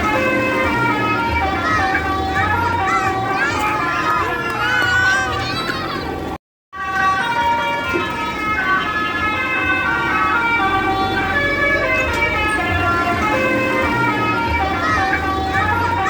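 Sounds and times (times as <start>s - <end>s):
multi-tone bus air horn melody: 0.0s - 5.5s, 6.2s - 16.0s.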